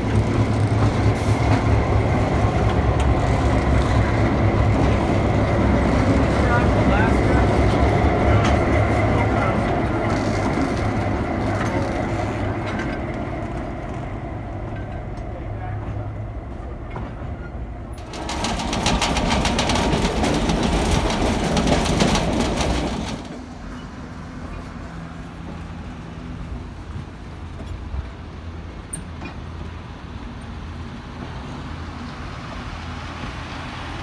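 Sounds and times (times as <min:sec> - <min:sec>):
diesel locomotive passing: 0:00.0 - 0:34.0
train wheels on rails: 0:00.0 - 0:34.0.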